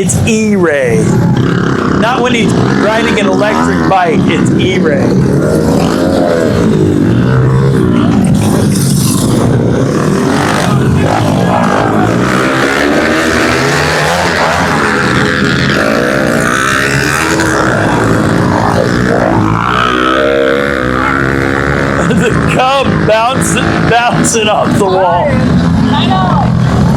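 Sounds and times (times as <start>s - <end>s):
small motorbike engines revving: 0.0s - 26.9s.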